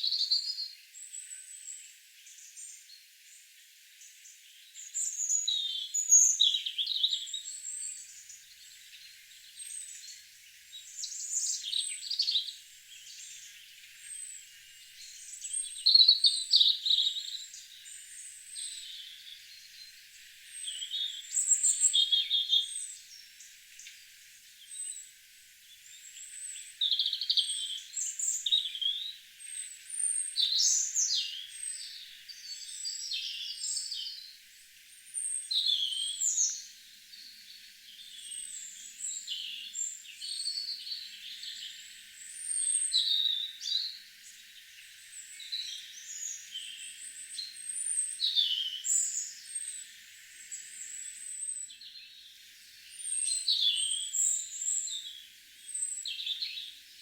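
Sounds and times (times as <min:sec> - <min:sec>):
faint steady hiss: 0:00.0 - 0:57.0
songbirds chirping and trilling: 0:00.0 - 0:57.0.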